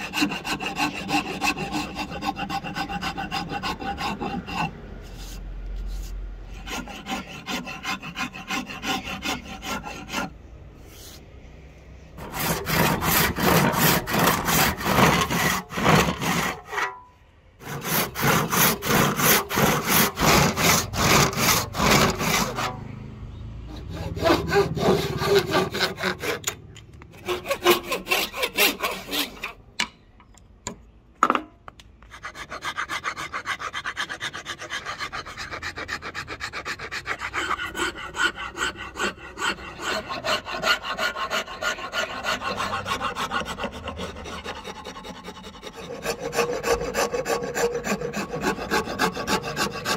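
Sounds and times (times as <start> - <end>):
handsaw cutting wood: 0.0 - 10.3, 12.2 - 16.9, 17.6 - 22.9, 23.7 - 26.6, 27.2 - 29.6, 32.2 - 49.9
file scraping wood: 0.0 - 11.3, 12.2 - 17.0, 17.6 - 23.0, 23.7 - 29.6, 32.0 - 49.9.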